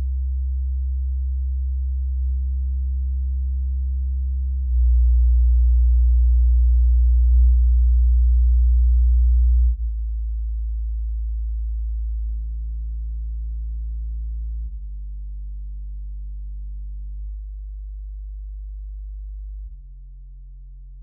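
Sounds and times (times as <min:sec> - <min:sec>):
low sine tones: 0:00.0 - 0:21.0.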